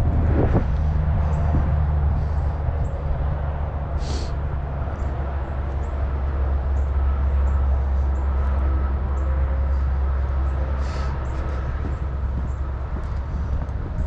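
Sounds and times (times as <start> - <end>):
heavy highway traffic rumble: 0.0 - 14.0.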